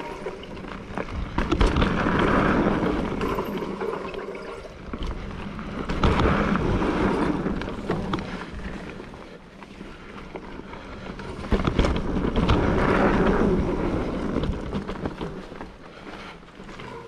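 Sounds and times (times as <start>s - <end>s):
tyres rolling on dirt: 0.0s - 4.2s, 4.8s - 17.0s.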